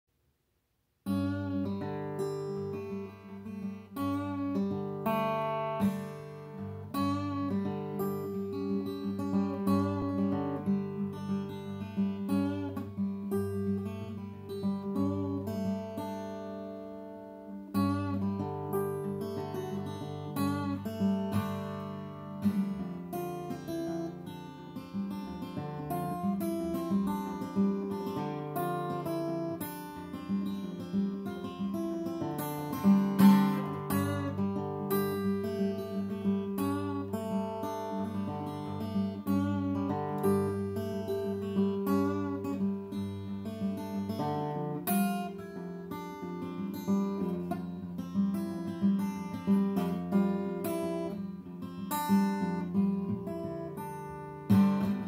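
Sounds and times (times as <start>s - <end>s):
acoustic guitar playing: 1.0s - 55.0s.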